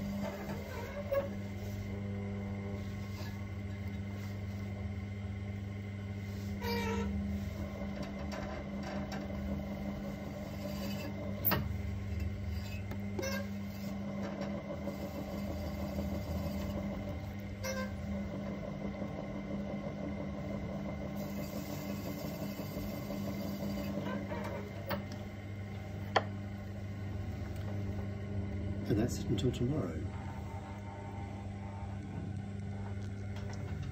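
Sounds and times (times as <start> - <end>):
pottery wheel motor hum: 0.0 - 33.9.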